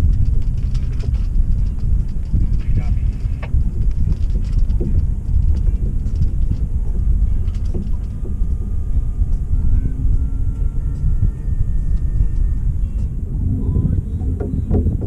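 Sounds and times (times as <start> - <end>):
faint ticks and knocks: 0.0 - 13.2, 14.2 - 15.0
wind buffeting microphone: 0.0 - 15.0.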